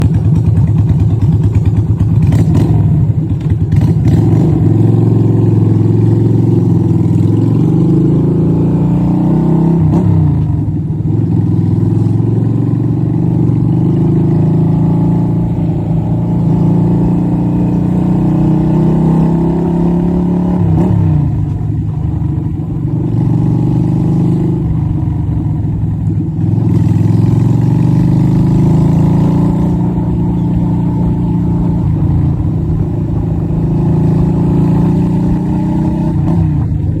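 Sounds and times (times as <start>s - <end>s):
motorcycle engine while riding: 0.0s - 37.0s.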